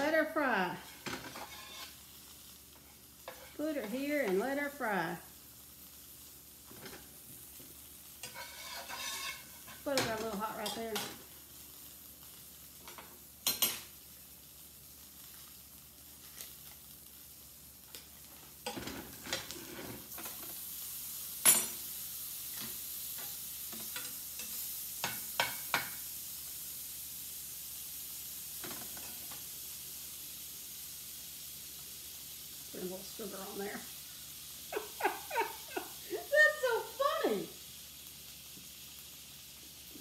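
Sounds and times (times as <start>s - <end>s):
food sizzling in a skillet: 0.0s - 40.0s.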